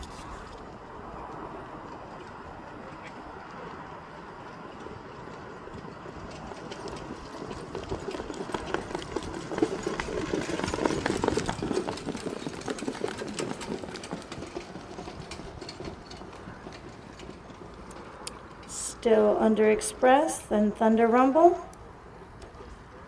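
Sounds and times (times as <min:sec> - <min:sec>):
clatter of horse hooves: 0:00.0 - 0:23.0.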